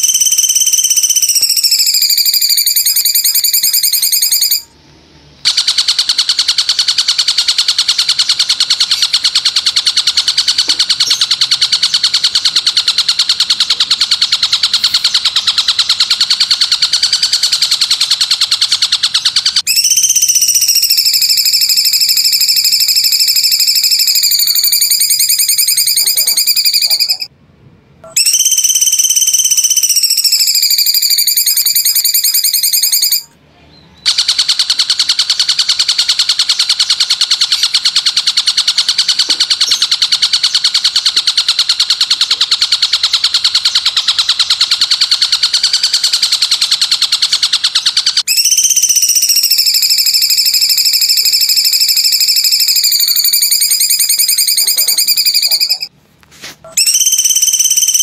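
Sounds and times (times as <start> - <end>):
rapid buzzing bird trill: 0.0 - 4.8, 5.4 - 27.3, 28.1 - 33.3, 34.0 - 55.9, 56.7 - 58.0.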